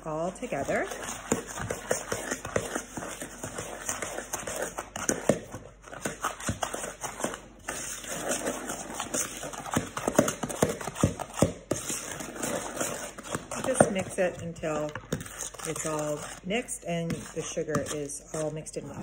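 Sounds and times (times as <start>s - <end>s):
utensil scraping plastic bowl: 0.4s - 19.0s.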